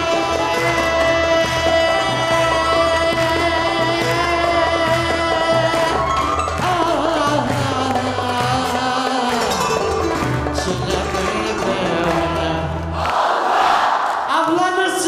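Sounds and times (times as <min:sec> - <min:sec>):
live folk band: 0:00.0 - 0:13.0
man singing: 0:00.0 - 0:13.0.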